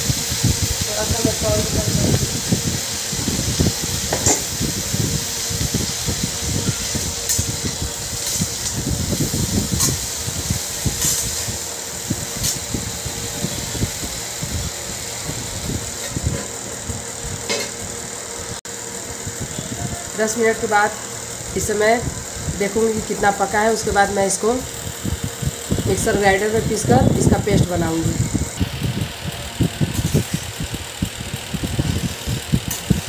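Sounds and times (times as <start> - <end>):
onions and tomatoes frying: 0.0 - 33.0.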